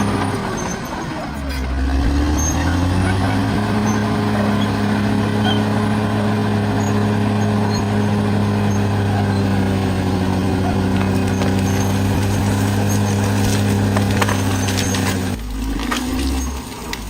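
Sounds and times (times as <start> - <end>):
bulldozer diesel engine revving: 0.0 - 17.0.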